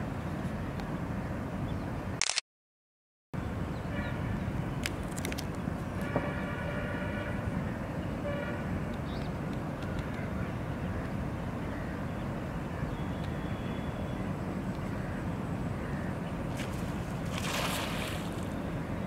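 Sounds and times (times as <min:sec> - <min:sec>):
urban traffic rumble: 0:00.0 - 0:02.2, 0:03.4 - 0:19.0.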